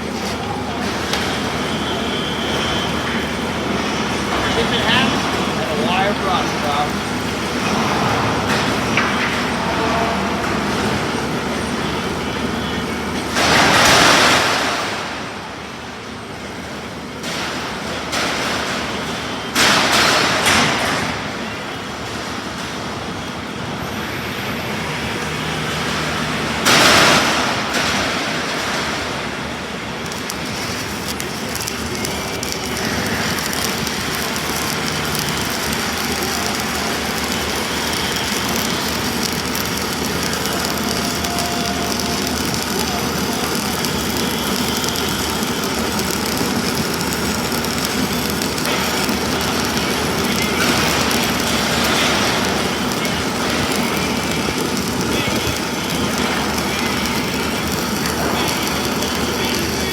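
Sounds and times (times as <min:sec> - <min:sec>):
loud harsh bursts: 0:00.0 - 0:15.2, 0:24.2 - 0:59.9
job-site machine noise: 0:00.0 - 0:59.9.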